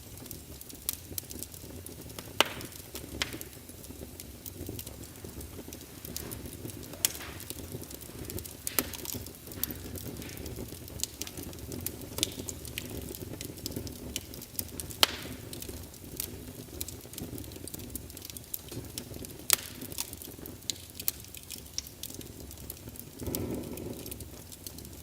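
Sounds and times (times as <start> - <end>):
low rumble of flames: 0.0 - 25.0
wood fire popping and snapping: 0.0 - 25.0.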